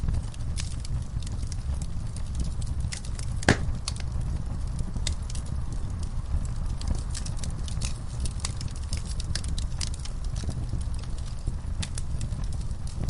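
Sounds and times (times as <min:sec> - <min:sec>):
fire pops and snaps: 0:00.0 - 0:13.0
low rumble of flames: 0:00.0 - 0:13.0.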